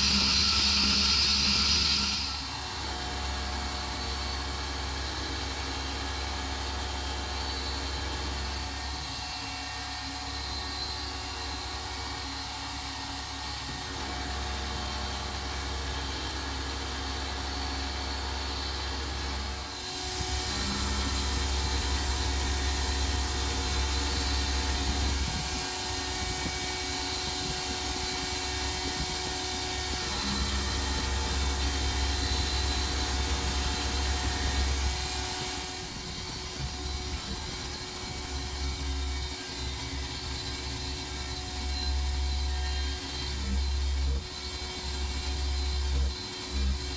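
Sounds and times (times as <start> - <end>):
milling machine spindle running: 0.0 - 46.9.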